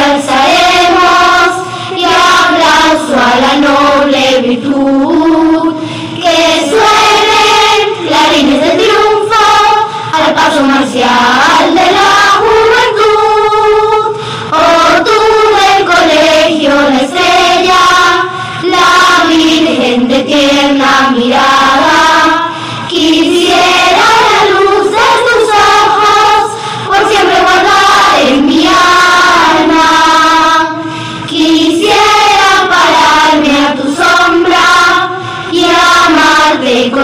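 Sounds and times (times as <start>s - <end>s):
choir singing a hymn: 0.0s - 37.0s.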